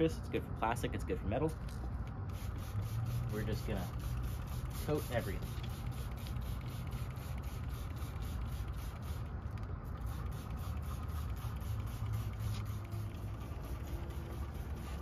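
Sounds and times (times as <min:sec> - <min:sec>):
steady low rumble: 0:00.0 - 0:15.0
trigger sprayer squirting: 0:02.3 - 0:15.0.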